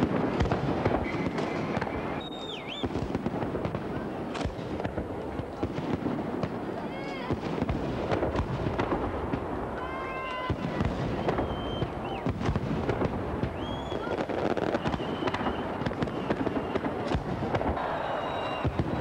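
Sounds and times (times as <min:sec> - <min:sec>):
firework bangs and crackles: 0:00.0 - 0:19.0
high whistling fireworks: 0:00.0 - 0:19.0.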